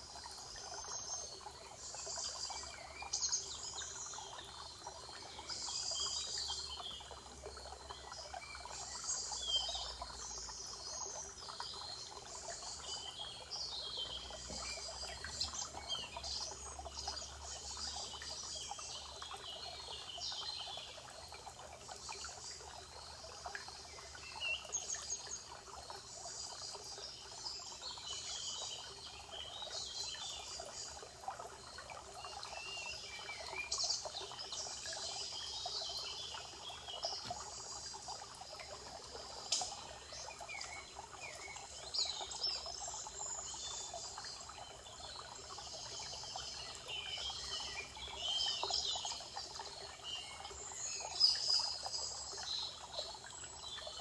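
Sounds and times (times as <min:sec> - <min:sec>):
trickle of running water: 0:00.0 - 0:54.0
songbirds singing and chirping: 0:00.1 - 0:54.0.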